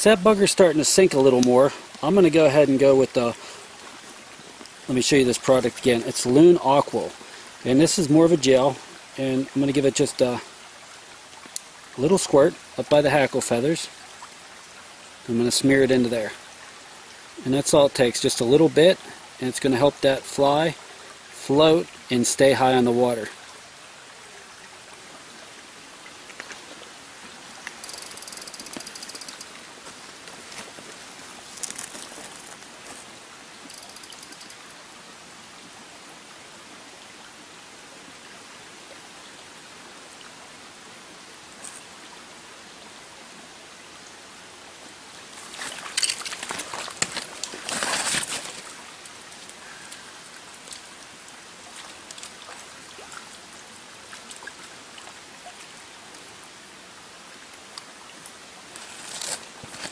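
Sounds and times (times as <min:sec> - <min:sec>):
brook running over rocks: 0:00.0 - 0:59.9.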